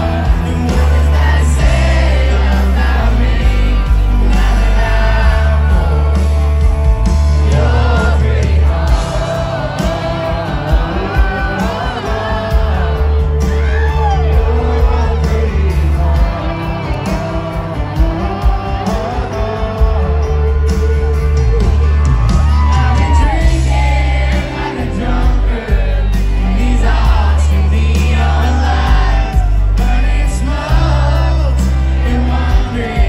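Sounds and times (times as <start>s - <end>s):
country band playing: 0.0s - 33.0s
person singing: 0.0s - 33.0s.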